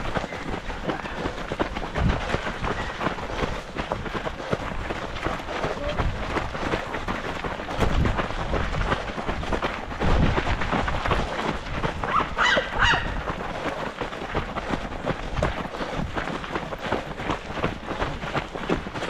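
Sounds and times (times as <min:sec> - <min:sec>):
running footsteps: 0:00.0 - 0:19.0.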